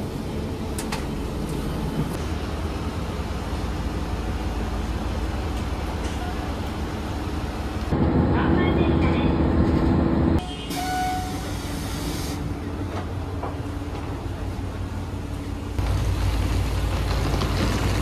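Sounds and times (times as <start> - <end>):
deep engine rumble: 0.0 - 10.4, 12.5 - 18.0
train carriage rumble: 0.0 - 18.0
train engine hum: 0.0 - 18.0.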